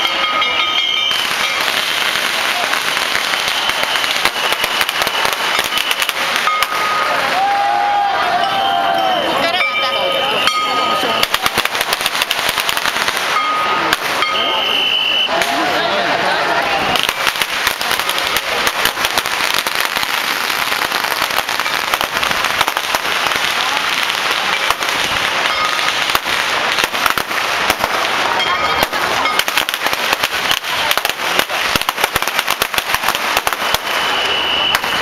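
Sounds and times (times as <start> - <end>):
firecrackers crackling: 0.0 - 35.0.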